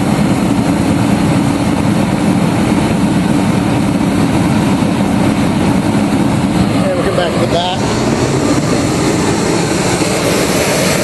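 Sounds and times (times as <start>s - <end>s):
kerosene heater fan and burner rushing: 0.0s - 11.0s.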